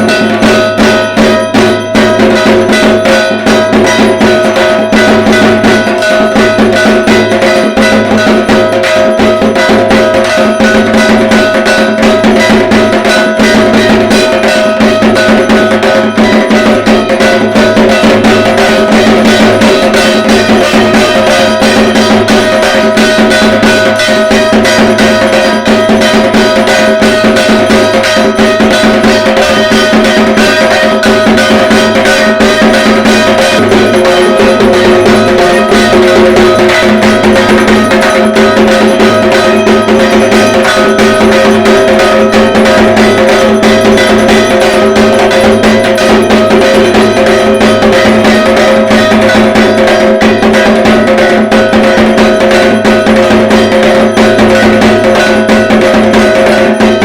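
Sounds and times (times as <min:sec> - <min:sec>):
barrel drum beaten with sticks: 0:00.0 - 0:57.0
metallic ringing: 0:00.0 - 0:57.0.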